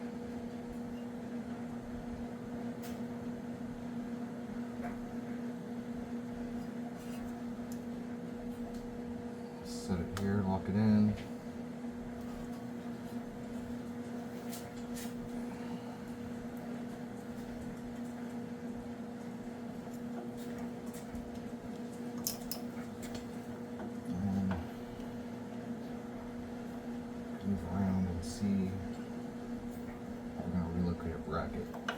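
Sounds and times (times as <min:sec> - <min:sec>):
electrical hum: 0:00.0 - 0:31.9.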